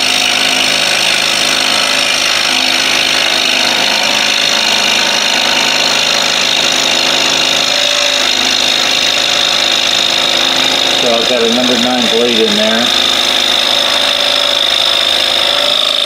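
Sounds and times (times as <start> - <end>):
scroll saw cutting wood: 0.0 - 16.0.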